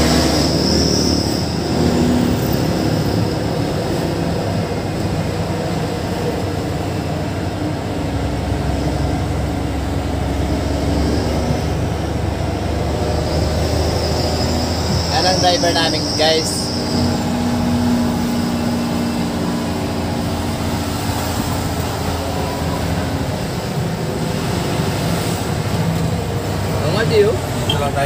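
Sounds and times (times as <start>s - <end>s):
diesel engine drone: 0.0s - 28.0s.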